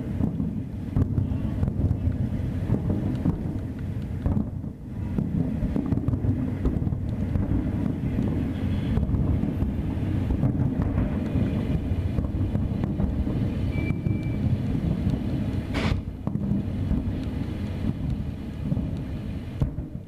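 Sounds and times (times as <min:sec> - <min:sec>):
fireworks booming: 0:00.0 - 0:20.0
sharp firework crack: 0:00.0 - 0:20.0.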